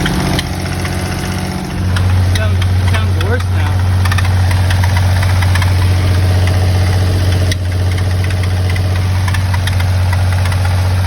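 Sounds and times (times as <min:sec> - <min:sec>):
car engine idling: 0:00.0 - 0:11.0
light irregular ticking: 0:00.0 - 0:11.0.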